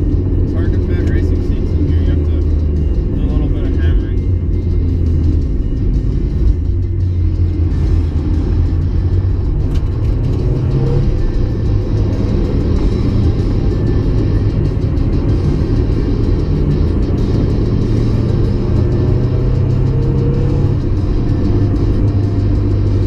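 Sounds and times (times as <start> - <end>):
car engine running while driving: 0.0 - 23.0.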